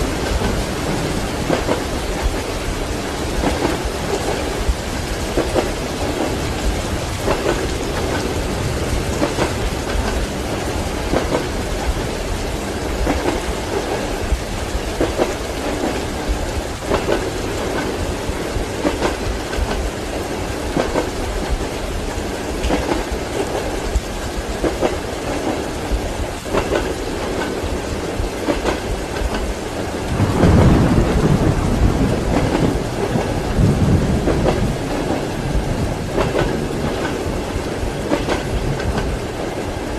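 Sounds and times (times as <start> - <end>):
steady rain: 0.0 - 39.9
thunder rumbling: 0.0 - 39.9
train wheels clacking on rails: 0.0 - 39.9.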